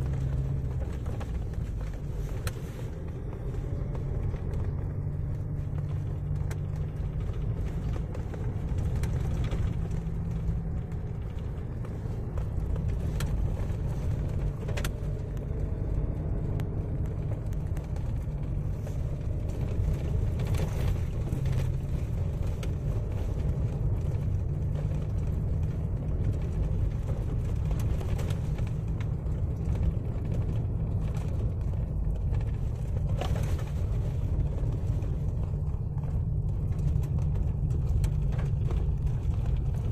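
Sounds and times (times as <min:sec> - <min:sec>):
car driving over rough dirt road: 0:00.0 - 0:39.9.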